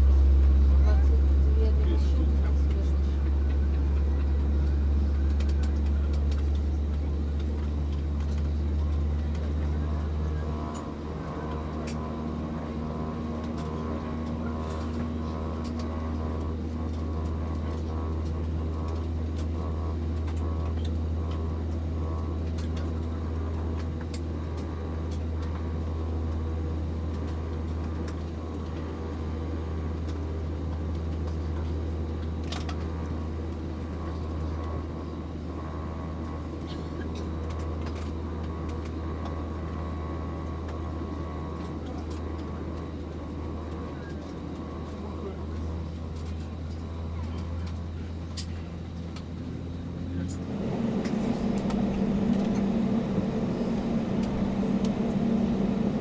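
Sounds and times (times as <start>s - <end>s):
aircraft engine drone in cabin: 0.0s - 56.0s.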